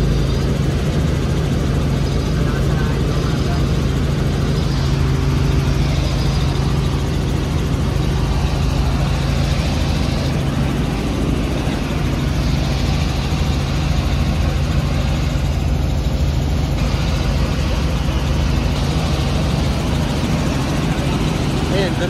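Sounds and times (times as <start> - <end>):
helicopter engine and rotors droning: 0.0 - 22.0.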